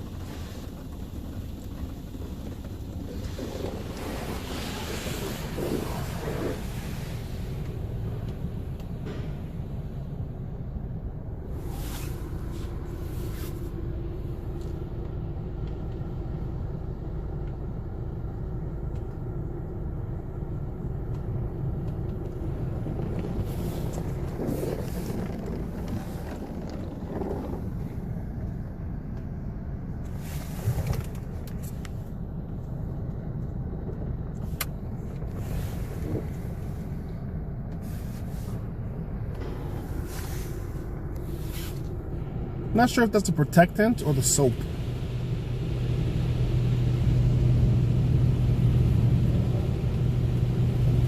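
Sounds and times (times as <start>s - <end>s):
car interior low rumble: 0.0s - 51.0s.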